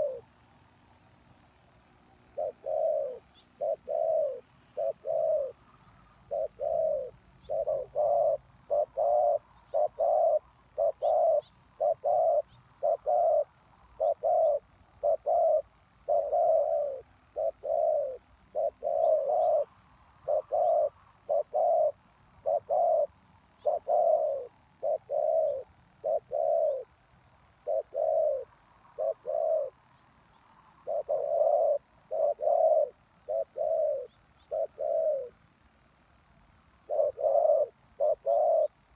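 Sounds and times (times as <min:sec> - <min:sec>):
dove cooing: 0:00.0 - 0:00.4, 0:02.3 - 0:26.9, 0:27.5 - 0:29.8, 0:30.7 - 0:35.4, 0:36.8 - 0:38.9.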